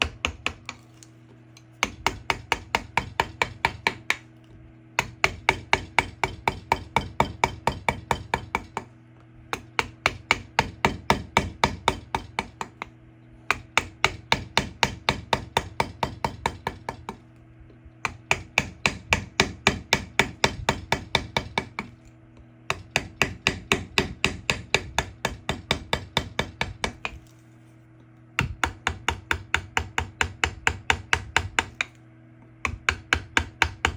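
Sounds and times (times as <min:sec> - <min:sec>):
hammer striking carving chisel: 0:00.0 - 0:00.8, 0:01.8 - 0:04.2, 0:05.0 - 0:08.9, 0:09.5 - 0:12.9, 0:13.5 - 0:17.2, 0:18.0 - 0:21.9, 0:22.7 - 0:27.3, 0:28.4 - 0:32.0, 0:32.6 - 0:33.9.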